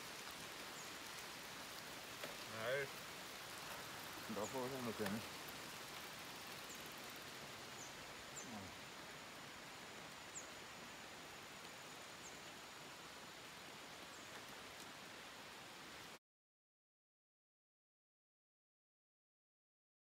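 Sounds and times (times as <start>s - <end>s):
faint high insect drone: 0.0s - 16.2s
steady hiss: 0.0s - 16.2s.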